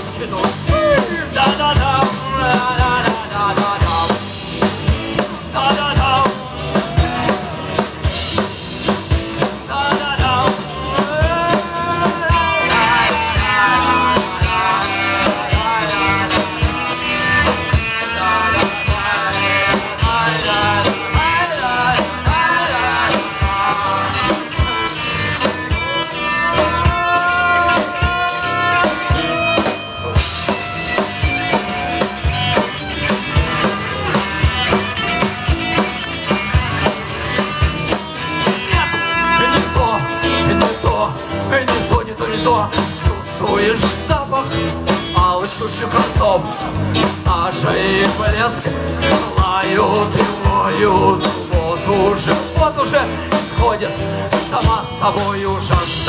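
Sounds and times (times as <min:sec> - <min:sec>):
bass: 0:00.0 - 0:56.0
steady drum beat: 0:00.0 - 0:56.0.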